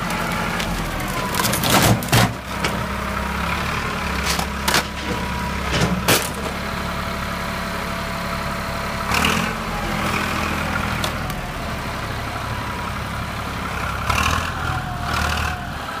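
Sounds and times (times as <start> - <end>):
tractor engine revving: 0.0 - 16.0.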